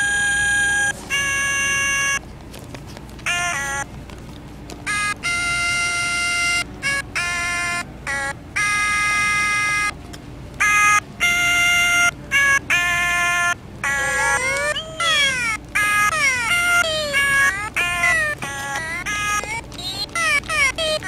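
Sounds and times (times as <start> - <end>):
plush toys singing electronic notes: 0.0 - 2.3, 3.2 - 3.9, 4.7 - 10.0, 10.6 - 21.0.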